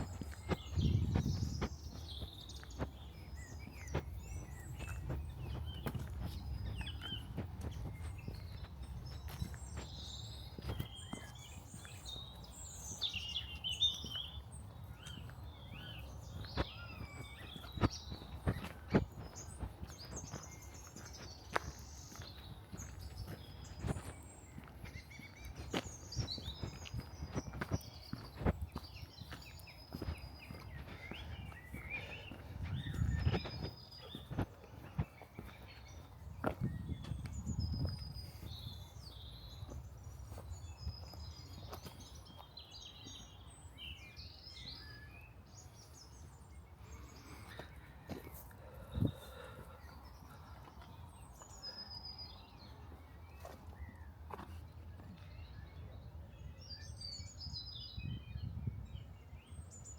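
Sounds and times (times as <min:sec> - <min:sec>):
footsteps on a path: 0:00.0 - 0:59.9
songbirds chirping and singing: 0:00.0 - 0:59.9.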